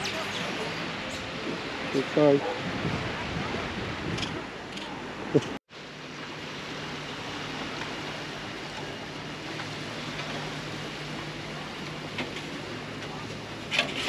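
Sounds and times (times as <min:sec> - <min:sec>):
surf on a sandy beach: 0:00.0 - 0:14.0.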